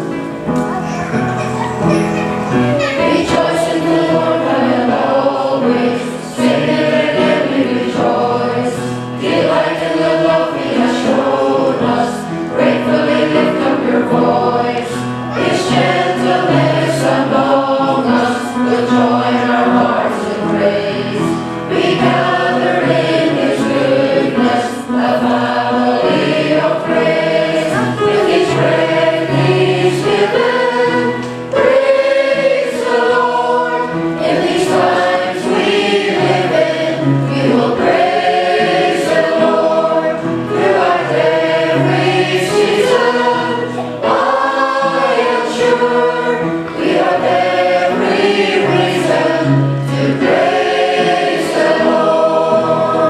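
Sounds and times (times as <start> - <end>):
church choir singing: 0.0 - 53.0.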